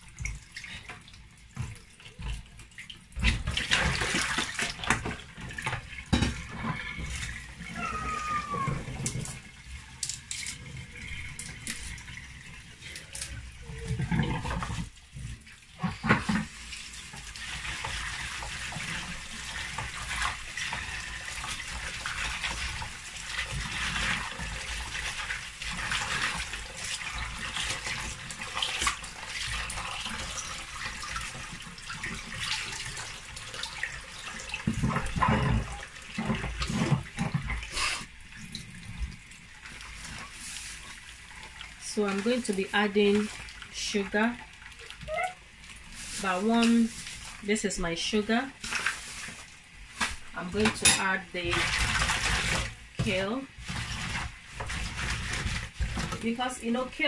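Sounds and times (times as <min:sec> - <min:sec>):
tap water running: 0:00.0 - 0:57.0
water splashing and sloshing: 0:00.0 - 0:57.0.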